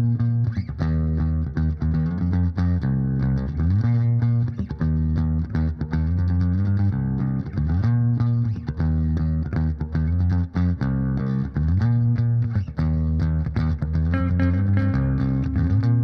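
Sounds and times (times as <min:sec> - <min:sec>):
bass guitar and guitar music: 0:00.0 - 0:16.0.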